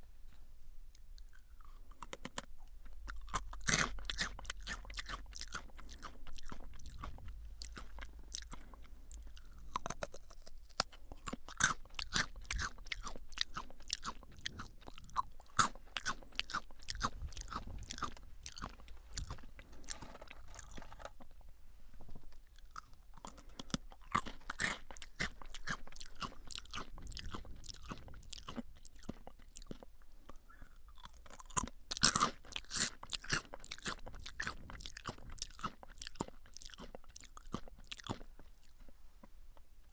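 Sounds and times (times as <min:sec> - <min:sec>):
crunching potato sticks: 0:00.9 - 0:21.4, 0:22.1 - 0:39.9.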